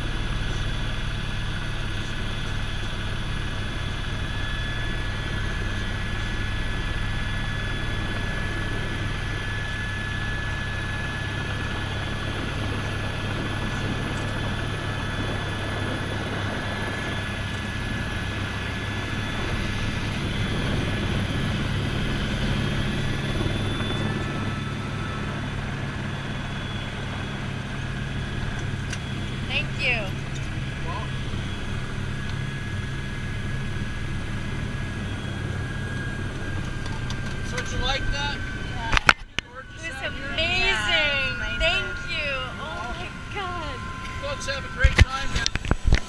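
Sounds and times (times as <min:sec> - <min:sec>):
helicopter turbine and rotor: 0:00.0 - 0:46.0.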